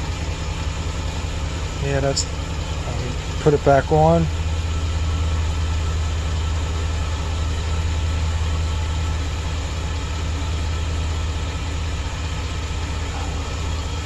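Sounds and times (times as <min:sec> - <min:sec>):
van engine idling with misfire: 0:00.0 - 0:14.0.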